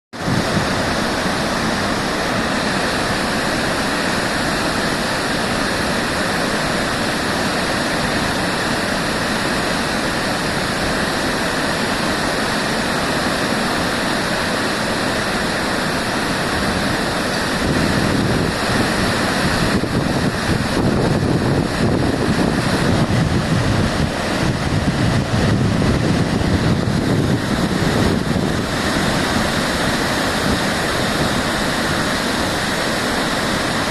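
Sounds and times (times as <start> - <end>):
waterfall crashing: 0.2 - 33.9.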